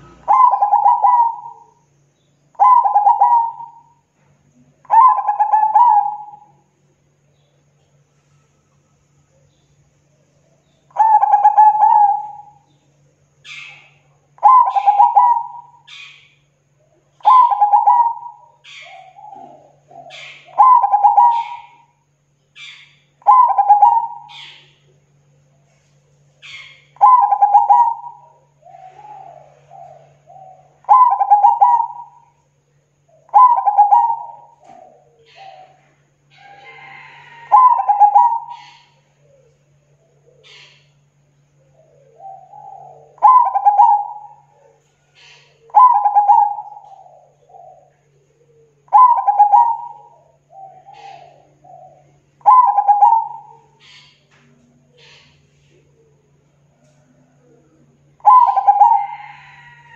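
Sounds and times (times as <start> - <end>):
dove cooing: 0.0 - 7.4, 10.3 - 59.9.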